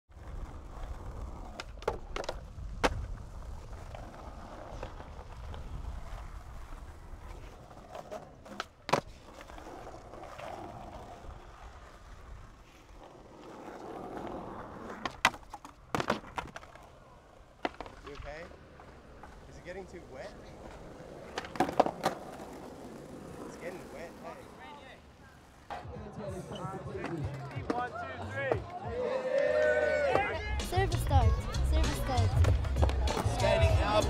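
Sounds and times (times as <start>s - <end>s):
skateboard wheels rolling on concrete: 0.1s - 34.0s
skateboard clacks: 0.2s - 24.7s, 30.0s - 34.0s.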